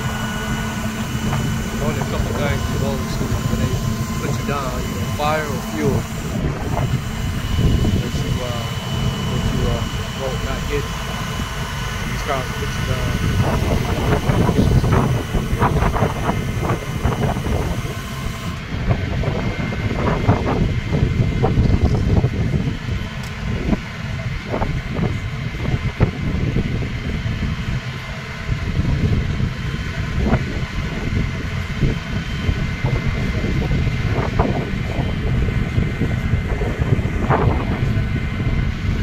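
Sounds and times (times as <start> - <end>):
truck engine rumble: 0.0 - 39.0.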